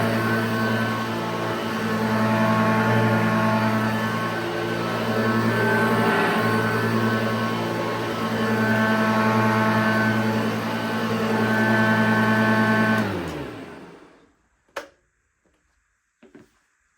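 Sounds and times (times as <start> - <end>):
vacuum cleaner motor running: 0.0 - 14.3.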